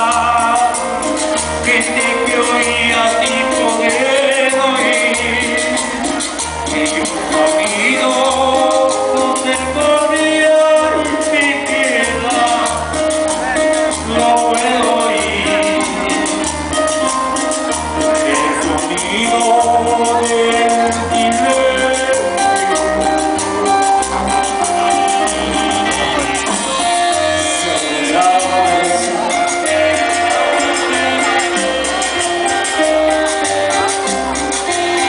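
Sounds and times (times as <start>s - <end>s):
cumbia music: 0.0s - 35.0s.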